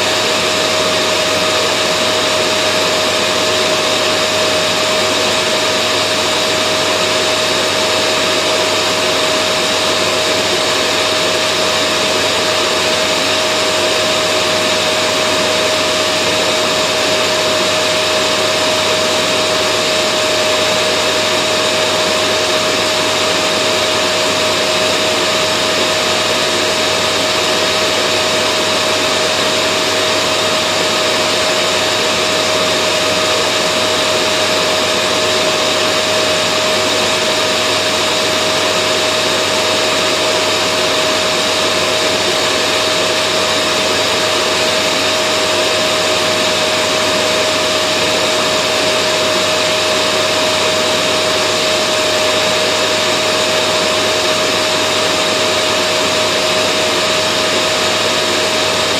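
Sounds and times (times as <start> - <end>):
vacuum cleaner motor running: 0.0 - 58.9.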